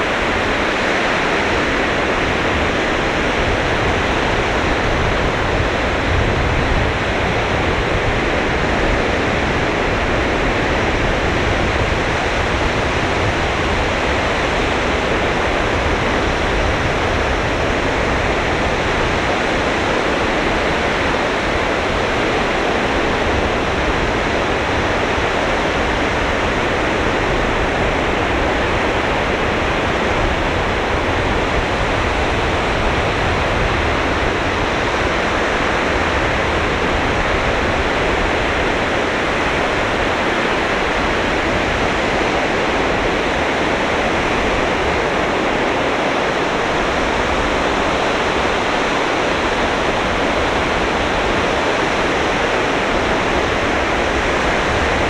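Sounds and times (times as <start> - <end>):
sea surf on sand: 0.0 - 55.0.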